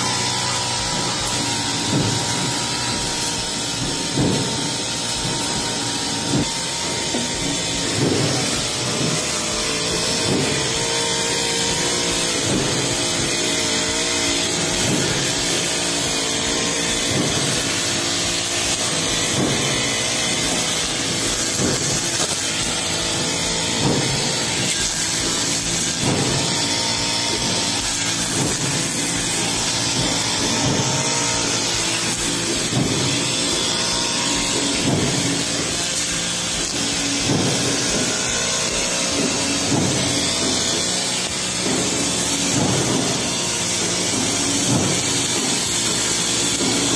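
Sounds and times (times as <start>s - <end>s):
brush cutter cutting grass: 0.0s - 46.9s.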